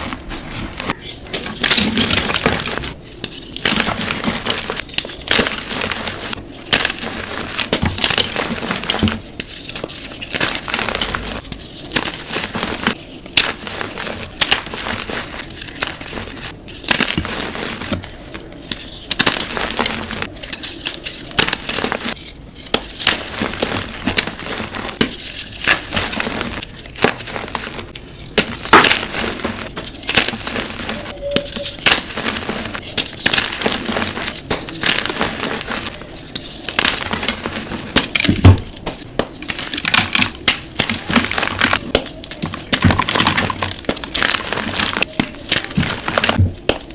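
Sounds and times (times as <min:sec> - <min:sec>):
chalk crunching and crumbling: 0:00.0 - 0:46.9.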